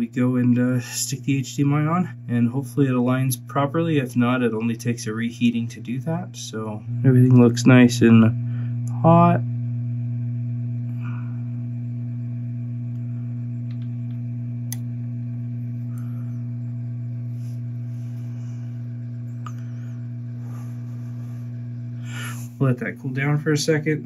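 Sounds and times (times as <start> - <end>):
hot air station electrical hum: 0.0 - 24.0.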